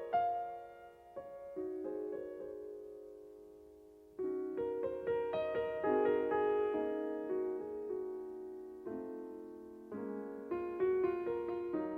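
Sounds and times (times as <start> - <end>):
soft piano chords: 0.0 - 11.9.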